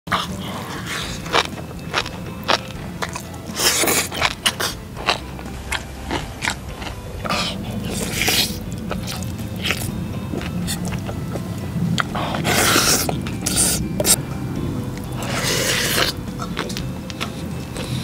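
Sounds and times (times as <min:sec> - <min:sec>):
slurping: 0:00.1 - 0:14.2, 0:15.0 - 0:18.0
wet chewing and crisp biting: 0:00.1 - 0:14.2, 0:15.0 - 0:18.0
steady low hum: 0:00.1 - 0:18.0.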